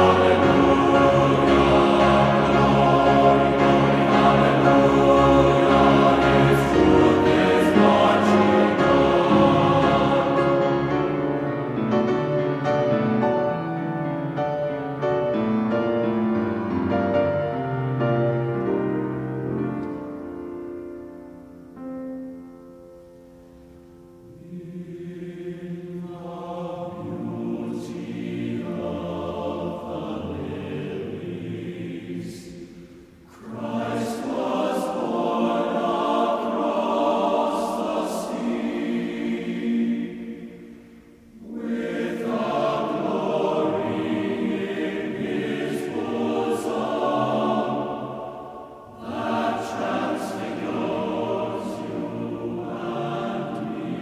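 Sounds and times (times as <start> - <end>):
choir singing held chords: 0.0 - 22.4, 23.0 - 54.0.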